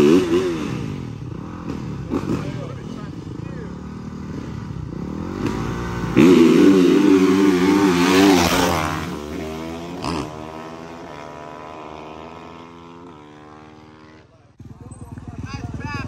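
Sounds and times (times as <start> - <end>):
dirt bikes revving: 0.0 - 16.0.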